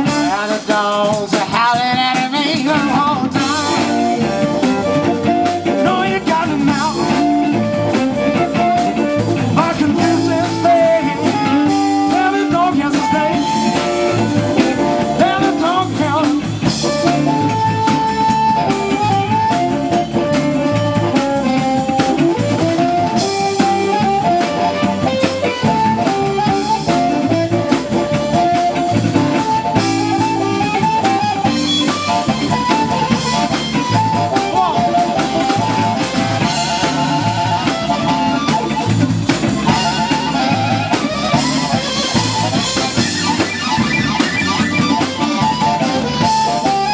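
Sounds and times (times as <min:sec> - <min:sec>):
drum kit: 0:00.0 - 0:46.9
electric bass: 0:00.0 - 0:46.9
electric guitar: 0:00.0 - 0:46.9
harmonica: 0:02.5 - 0:46.9.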